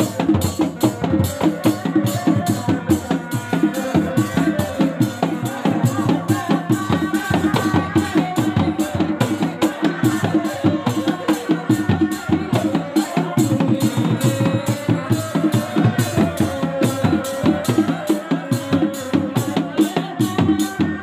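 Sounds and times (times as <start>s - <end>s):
drums in a fast beat: 0.0s - 21.0s
wind instrument melody: 0.0s - 21.0s.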